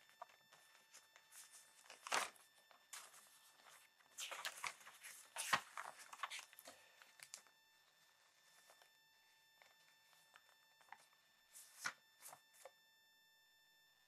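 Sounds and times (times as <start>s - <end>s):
paper rustling and crinkling: 0.0s - 12.7s.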